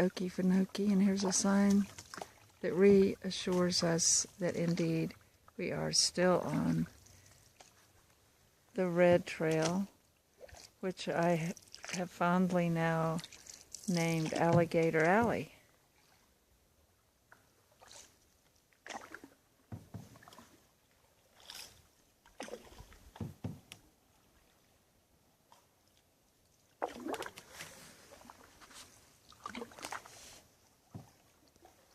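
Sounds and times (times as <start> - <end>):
paddle splashing through water: 0.0 - 8.2, 9.1 - 16.2, 17.3 - 24.8, 26.6 - 31.9.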